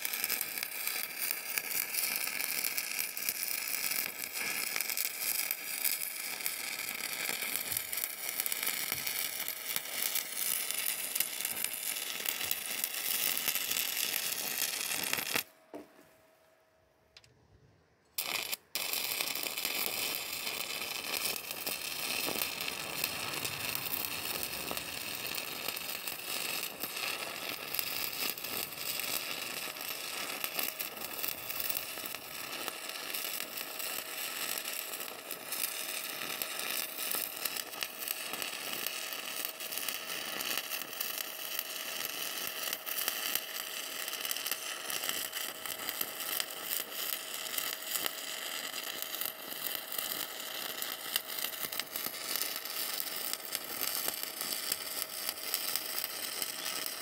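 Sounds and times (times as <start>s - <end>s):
welding arc crackling and hissing: 0.0s - 15.5s, 18.2s - 57.0s
welding arc striking pops: 0.0s - 15.8s, 18.1s - 57.0s.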